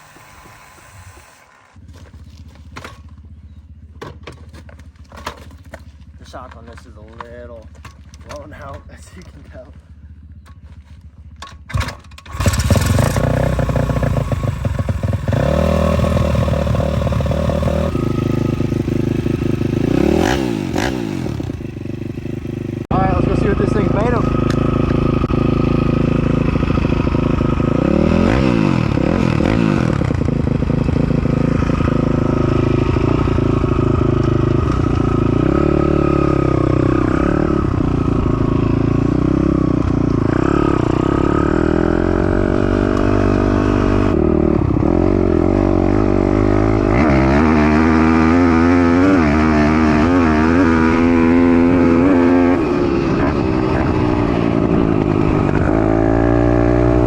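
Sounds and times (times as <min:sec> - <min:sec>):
motorbike engine revving: 0:00.0 - 0:06.8, 0:07.6 - 0:57.0.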